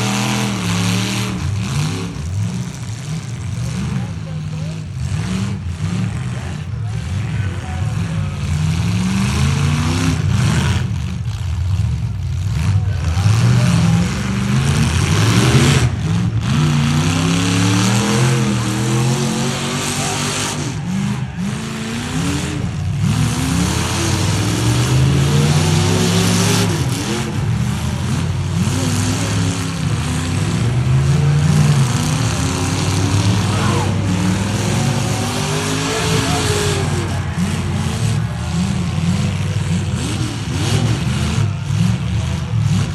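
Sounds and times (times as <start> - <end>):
truck engines revving hard: 0.0 - 42.9.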